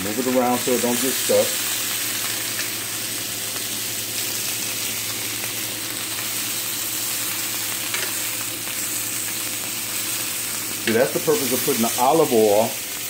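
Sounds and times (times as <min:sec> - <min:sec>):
fan humming: 0:00.0 - 0:13.0
fish sizzling in a grill pan: 0:00.0 - 0:13.0.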